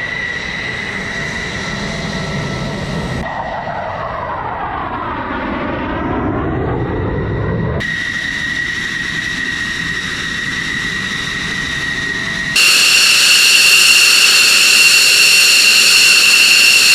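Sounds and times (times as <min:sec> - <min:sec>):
jet engine whine: 0:00.0 - 0:16.9.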